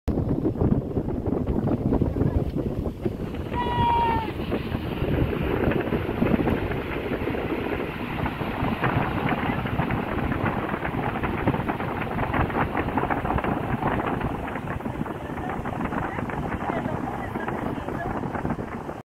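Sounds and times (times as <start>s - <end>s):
boat moving through water: 0.1s - 19.0s
wind buffeting microphone: 0.1s - 19.0s.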